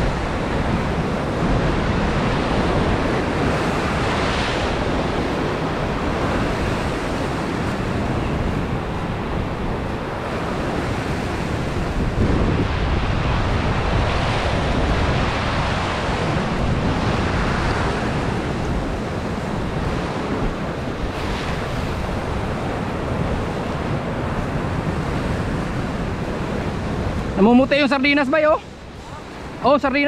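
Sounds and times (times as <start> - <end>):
sea waves breaking over rocks: 0.0 - 30.0
wind buffeting microphone: 0.0 - 30.0.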